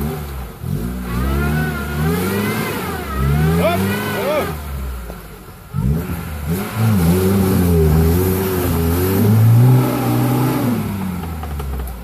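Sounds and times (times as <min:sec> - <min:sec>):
car engine revving hard: 0:00.0 - 0:11.8.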